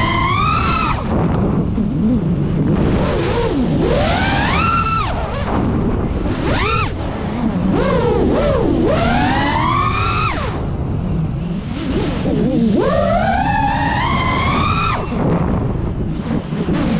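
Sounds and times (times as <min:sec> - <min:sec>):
drone motors whining: 0:00.0 - 0:16.9
wind and prop wash: 0:00.0 - 0:16.9.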